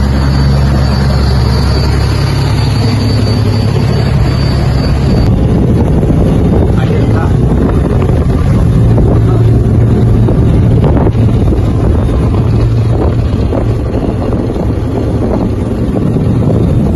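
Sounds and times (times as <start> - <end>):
churning wake water: 0.0 - 16.9
motorboat engine humming: 0.0 - 16.9
wind on microphone: 0.0 - 16.9.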